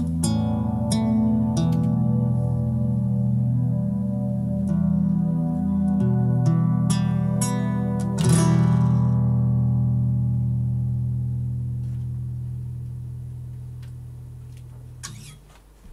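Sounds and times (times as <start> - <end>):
nylon-string guitar chord ringing: 0.0 - 15.4.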